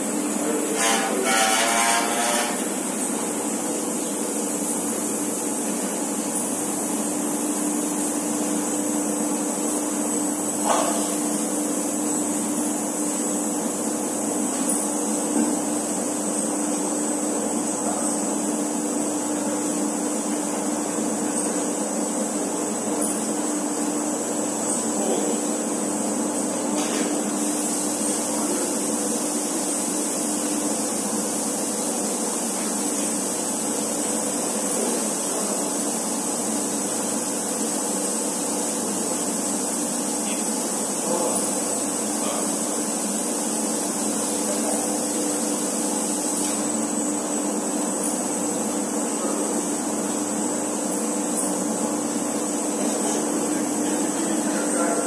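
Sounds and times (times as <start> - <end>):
wrapping machine humming and whirring: 0.0 - 55.0.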